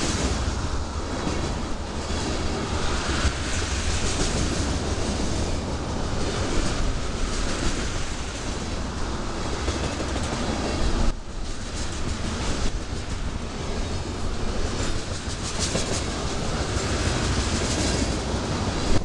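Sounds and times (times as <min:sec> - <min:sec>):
clickety-clack of wheels on rail joints: 0:00.0 - 0:19.0
freight train rolling past: 0:00.0 - 0:19.0.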